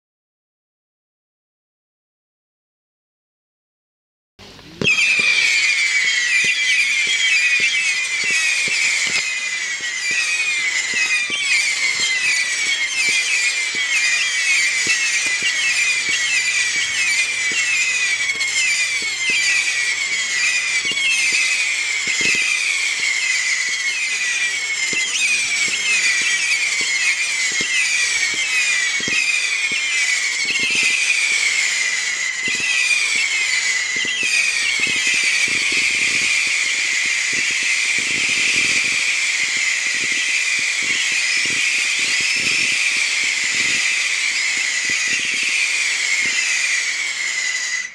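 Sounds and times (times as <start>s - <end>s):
firework whistles falling in pitch: 4.8s - 47.9s
firework launch thumps: 6.4s - 47.7s.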